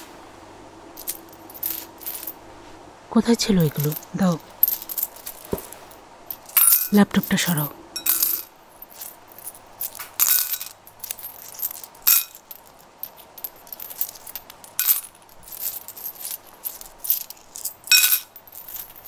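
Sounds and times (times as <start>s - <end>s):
metal coins clinking: 1.0s - 2.4s, 3.6s - 19.0s.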